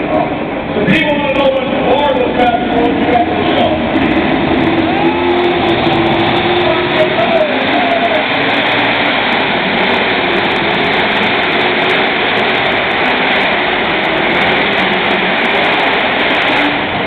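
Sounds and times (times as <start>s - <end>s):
tractor engine roaring: 0.0s - 17.0s.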